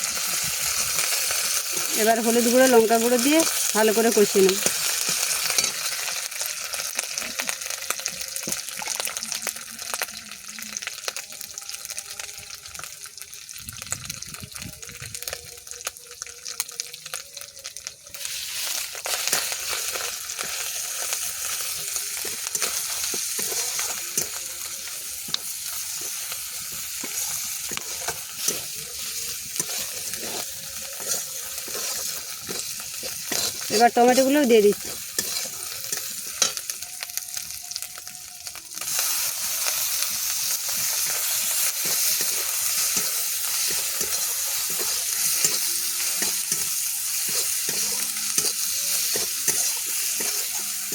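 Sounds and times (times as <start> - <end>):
onions sizzling in hot oil: 0.0 - 50.9.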